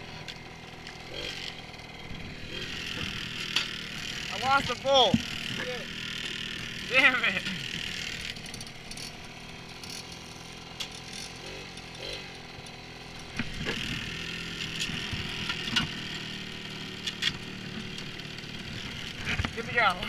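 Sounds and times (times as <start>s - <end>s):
bike clicks and rattles: 0.0s - 20.0s
moped engine running: 0.0s - 20.0s.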